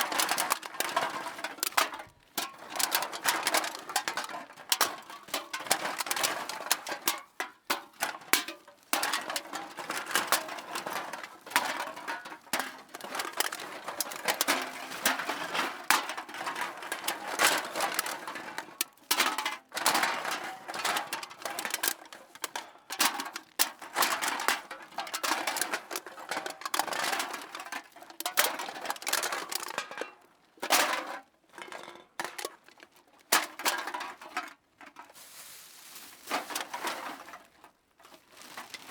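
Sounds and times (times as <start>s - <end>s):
cans clattering and clinking: 0.0s - 35.2s.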